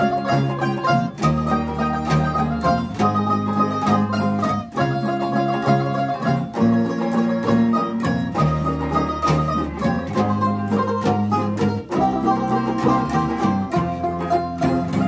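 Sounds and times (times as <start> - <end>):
acoustic bass line: 0.0 - 15.0
acoustic guitars strummed: 0.0 - 15.0
banjo: 0.0 - 15.0.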